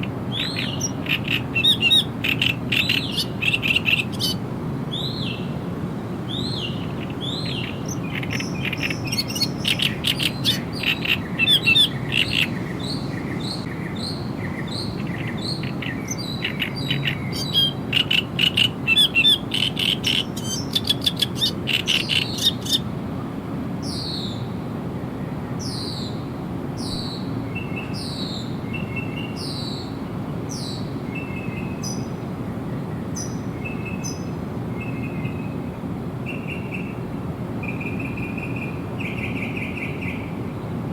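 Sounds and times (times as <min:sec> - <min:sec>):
songbirds singing: 0:00.0 - 0:23.0, 0:23.8 - 0:40.9
steady low background noise: 0:00.0 - 0:40.9.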